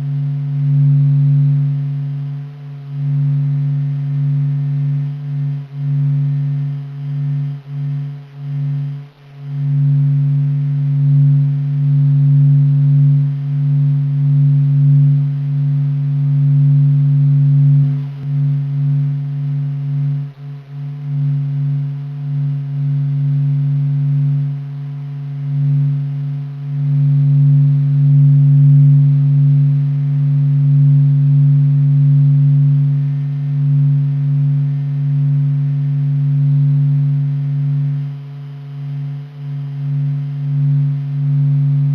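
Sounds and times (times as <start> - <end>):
deep steady hum: 0.0 - 41.9.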